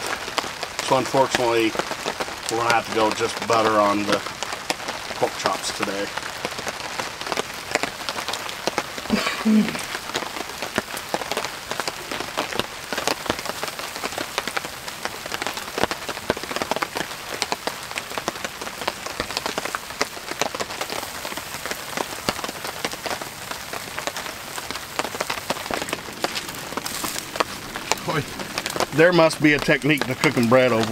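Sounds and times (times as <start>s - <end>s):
rain falling on a tarp: 0.0s - 30.9s.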